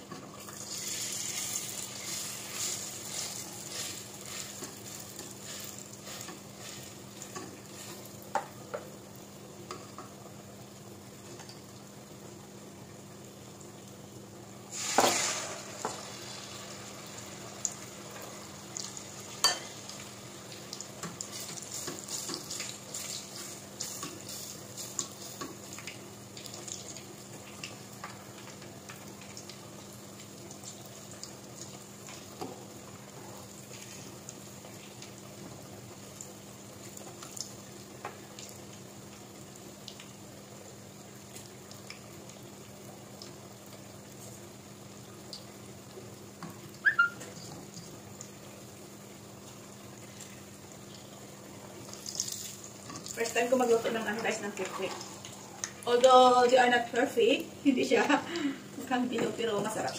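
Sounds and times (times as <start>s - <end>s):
eggs sizzling in hot oil: 0.0s - 59.9s.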